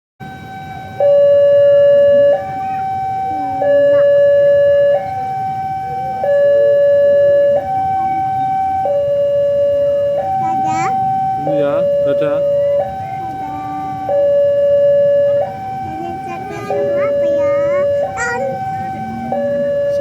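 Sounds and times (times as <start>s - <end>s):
two-tone warning siren: 0.2s - 20.0s.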